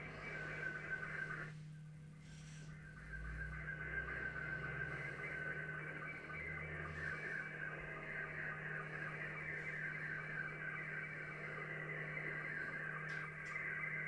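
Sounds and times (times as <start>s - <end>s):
radio band noise: 0.0s - 14.0s
steady low hum: 0.0s - 14.0s
warbling radio signal tones: 0.0s - 14.0s.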